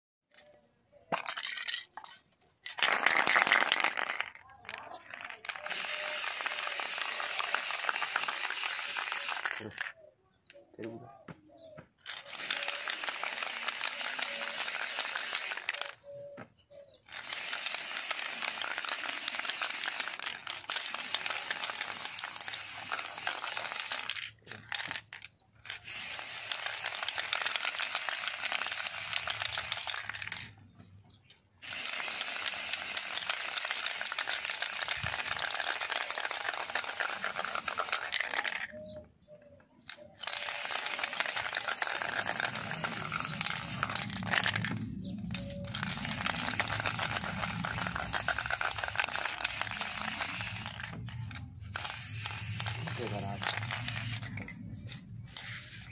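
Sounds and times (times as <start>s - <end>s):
spray paint can hissing: 2.8s - 4.3s, 5.1s - 9.9s, 12.1s - 16.0s, 17.1s - 30.5s, 31.6s - 38.7s, 39.9s - 55.9s.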